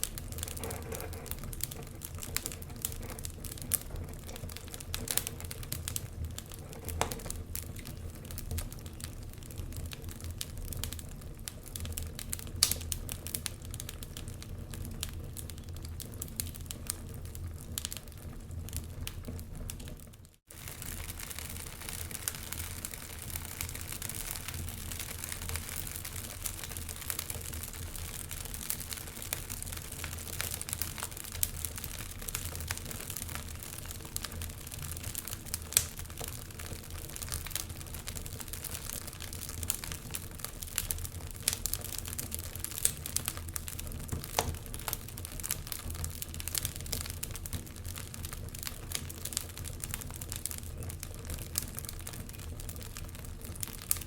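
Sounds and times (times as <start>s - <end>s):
fire hiss and low rumble: 0.0s - 54.0s
wood fire crackling and popping: 0.0s - 54.0s.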